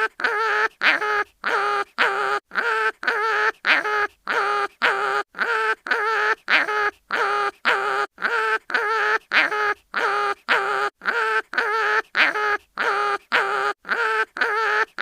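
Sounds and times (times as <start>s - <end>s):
cartoon animal yelping: 0.0s - 15.0s.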